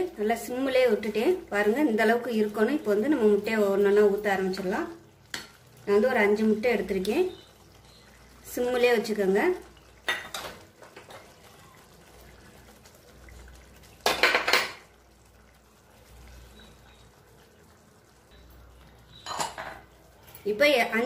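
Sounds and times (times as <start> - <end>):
eggs cracking on a pan: 2.4 - 20.6.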